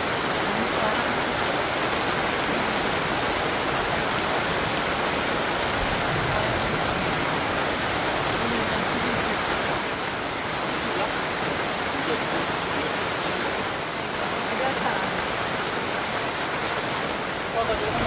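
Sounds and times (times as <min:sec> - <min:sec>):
heavy rain on a tent: 0:00.0 - 0:18.0.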